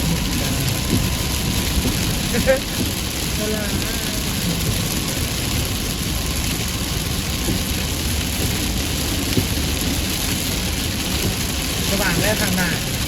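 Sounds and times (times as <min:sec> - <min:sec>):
car driving in heavy rain: 0:00.0 - 0:13.0.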